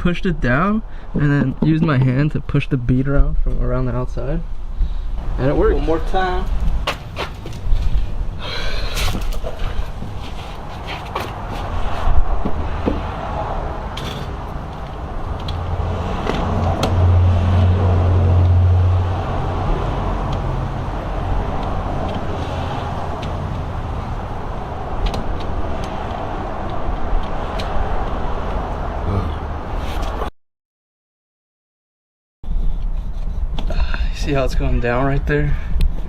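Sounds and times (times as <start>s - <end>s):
motor vehicle rumble: 0.0s - 30.3s.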